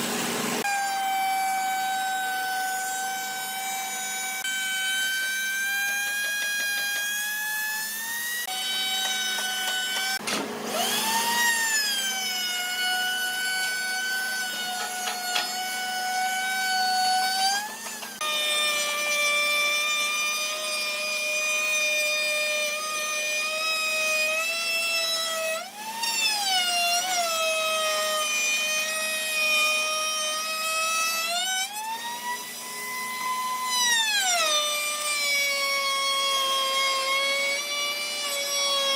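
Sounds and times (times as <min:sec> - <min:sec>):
woodworking power tool whine: 0:00.0 - 0:38.9.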